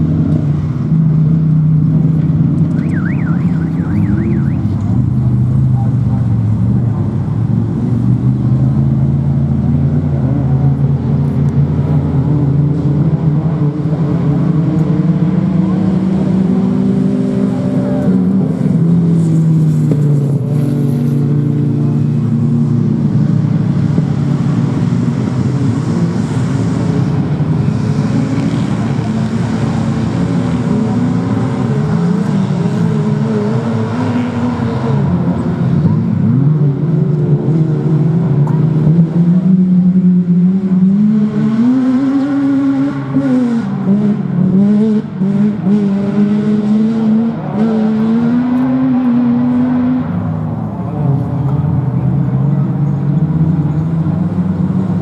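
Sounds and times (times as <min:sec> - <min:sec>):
off-road truck engines revving: 0:00.0 - 0:55.0.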